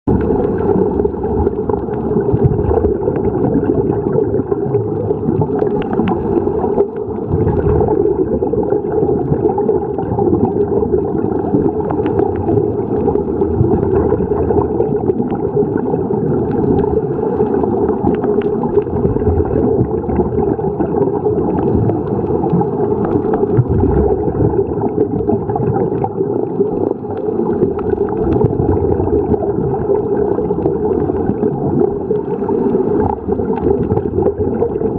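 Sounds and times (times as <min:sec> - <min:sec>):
muffled underwater bubbling: 0:00.1 - 0:34.9.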